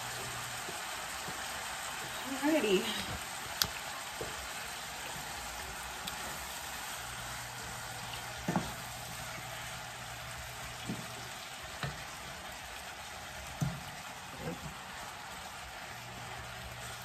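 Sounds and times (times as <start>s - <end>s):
meat sizzling in skillet: 0.0s - 17.0s.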